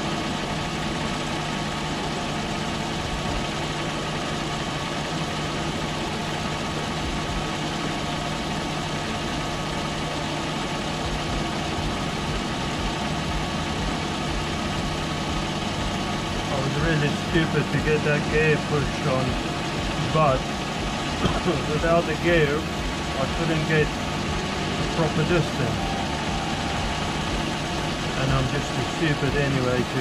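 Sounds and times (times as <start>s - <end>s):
metal lathe humming: 0.0s - 30.0s.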